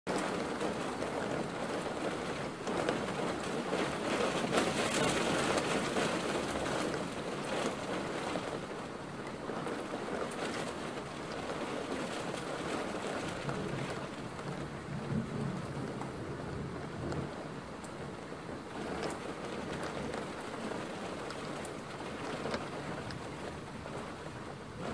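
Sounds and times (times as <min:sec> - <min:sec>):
steady rain falling: 0:00.1 - 0:24.9.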